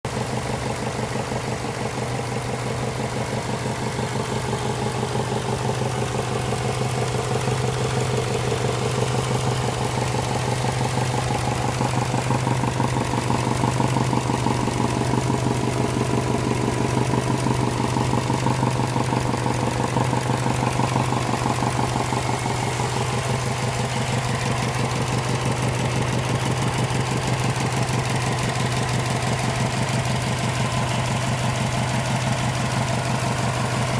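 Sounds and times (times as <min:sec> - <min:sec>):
car engine idling: 0:00.1 - 0:33.9
rhythmic engine knock: 0:00.1 - 0:33.9.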